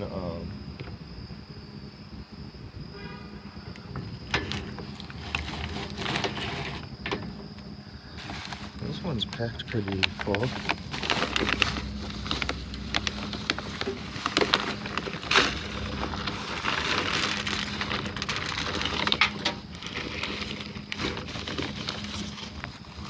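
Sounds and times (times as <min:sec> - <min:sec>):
steady low hum: 0:00.0 - 0:23.0
rubbish bags rustling: 0:03.6 - 0:23.0
items knocking and clattering: 0:03.9 - 0:07.6, 0:08.2 - 0:23.0.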